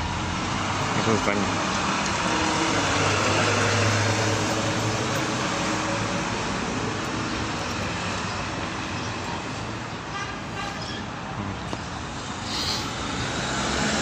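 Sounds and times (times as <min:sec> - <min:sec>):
road noise hiss: 0:00.0 - 0:14.0.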